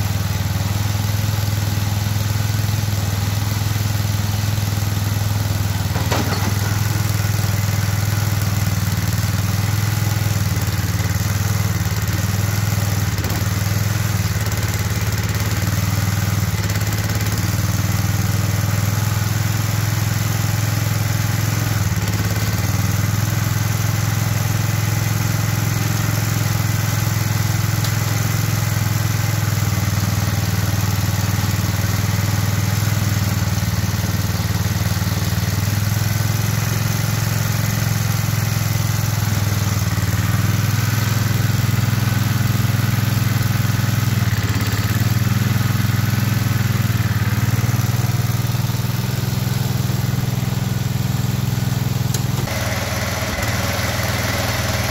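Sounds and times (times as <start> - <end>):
engine running steadily: 0.0 - 54.9.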